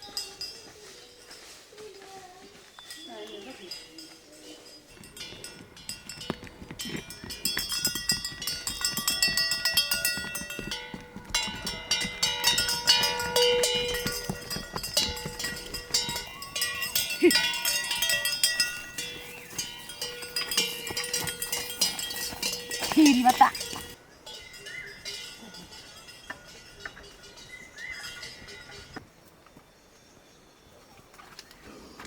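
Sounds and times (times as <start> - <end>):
cow bells clanking: 0.0 - 1.9, 2.9 - 29.1.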